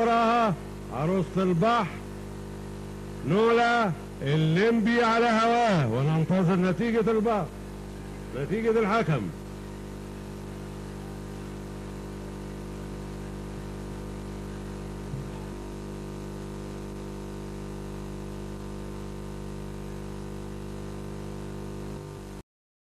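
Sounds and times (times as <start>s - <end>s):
electrical mains hum: 0.0s - 22.4s.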